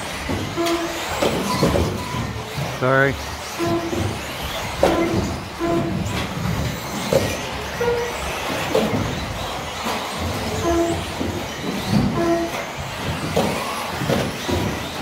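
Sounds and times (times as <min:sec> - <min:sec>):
rc car motors and tyres: 0:00.0 - 0:15.0.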